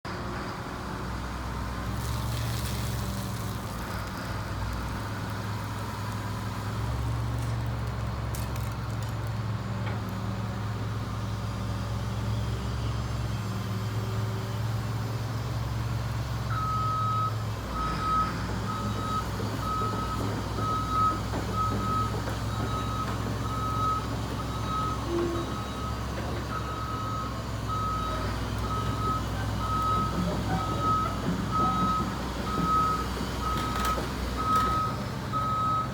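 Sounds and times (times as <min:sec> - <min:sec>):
excavator diesel engine running: 0:00.1 - 0:35.9.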